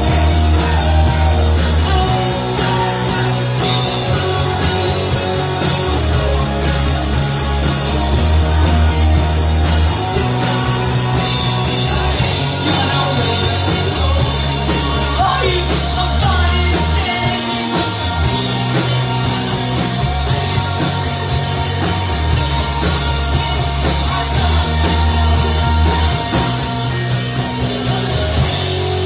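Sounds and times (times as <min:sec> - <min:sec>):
bass guitar holding notes: 0:00.0 - 0:29.0
drums: 0:00.0 - 0:29.0
electric guitars: 0:00.0 - 0:29.0.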